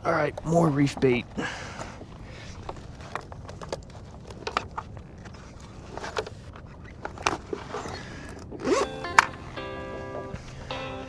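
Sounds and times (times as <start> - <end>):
knocks and clicks of gear: 0.3 - 10.7.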